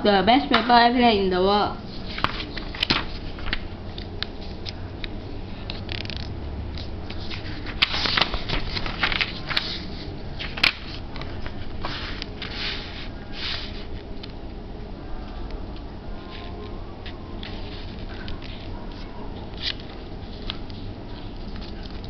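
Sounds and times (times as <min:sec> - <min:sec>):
paper rustling and crinkling: 0:01.9 - 0:14.4, 0:16.2 - 0:22.0.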